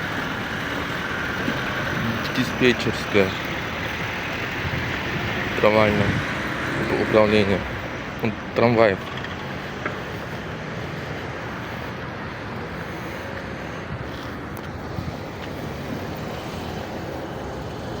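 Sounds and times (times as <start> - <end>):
vehicle running: 0.0 - 18.0.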